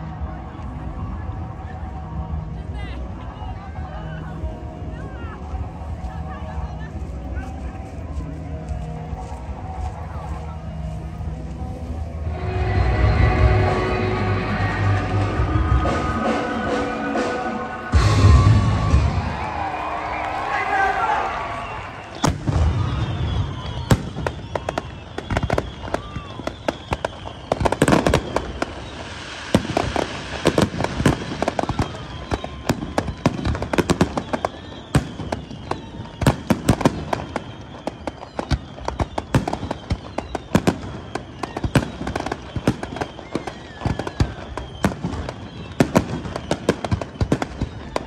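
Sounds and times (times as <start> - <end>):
fireworks bangs and crackles: 0.1 - 48.0.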